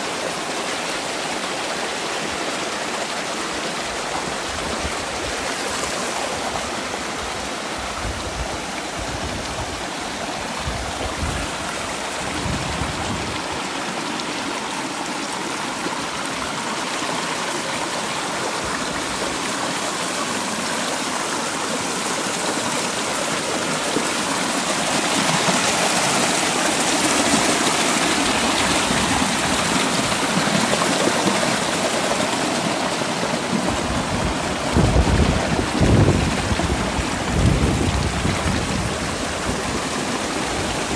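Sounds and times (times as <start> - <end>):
creek rushing over rock: 0.0 - 40.9.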